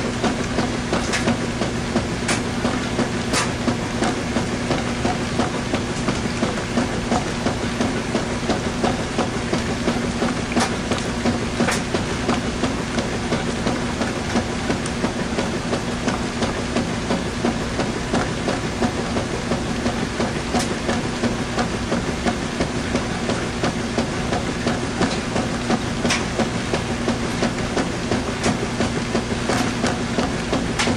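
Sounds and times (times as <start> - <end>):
washing machine churning: 0.0 - 30.9.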